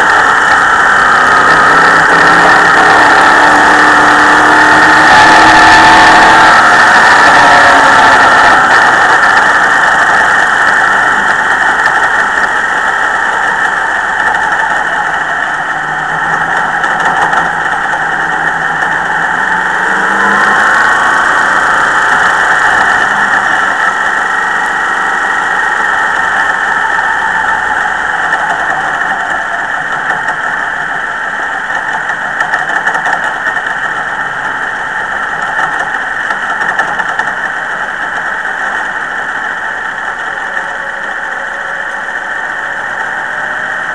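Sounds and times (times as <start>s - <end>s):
race car engine running hard: 0.0s - 43.9s.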